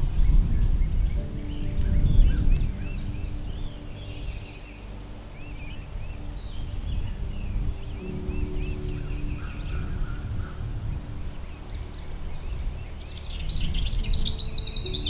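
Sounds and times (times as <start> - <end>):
songbirds chirping and singing: 0.0 - 15.0
steady low rumble: 0.0 - 15.0.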